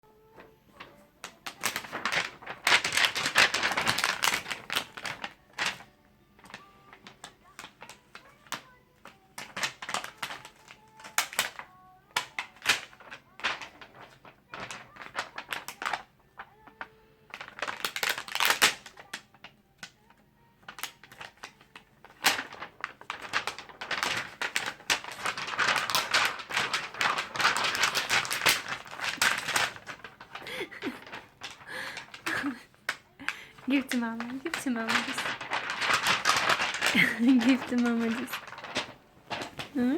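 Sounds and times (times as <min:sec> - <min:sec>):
crinkly rustling and crackling: 0:00.1 - 0:39.9.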